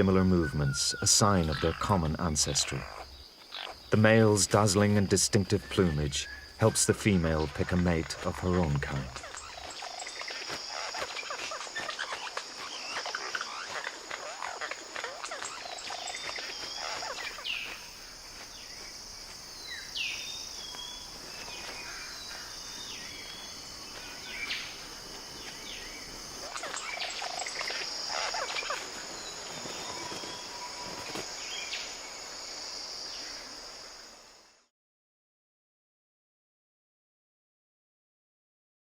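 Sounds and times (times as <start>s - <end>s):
bird calls: 0.0s - 32.4s
high-pitched insect drone: 0.6s - 34.6s.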